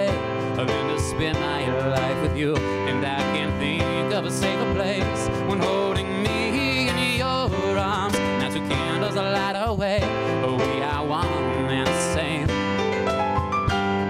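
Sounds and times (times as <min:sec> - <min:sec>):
man singing with vibrato: 0:00.0 - 0:12.7
digital piano accompaniment: 0:00.0 - 0:14.0.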